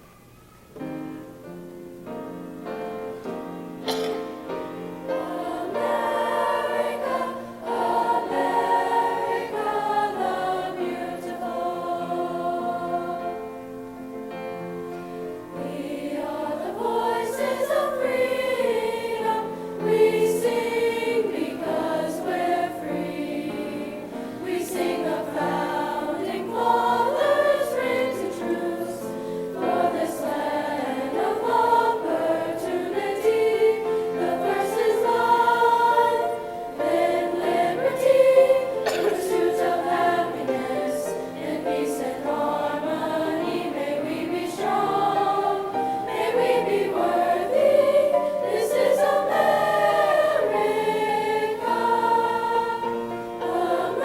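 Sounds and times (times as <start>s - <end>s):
choir singing: 2.3s - 54.0s.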